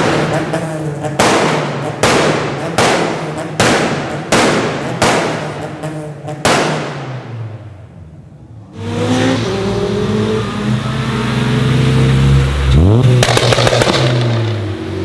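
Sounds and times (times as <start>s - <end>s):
car engine running: 0.0s - 15.0s
exhaust bangs: 0.0s - 15.0s.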